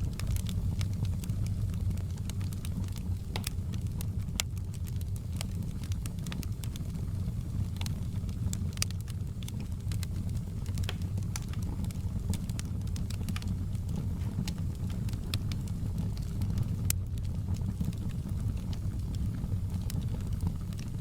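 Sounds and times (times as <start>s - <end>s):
fire crackles and pops: 0.0s - 21.0s
fire low rumble: 0.0s - 21.0s.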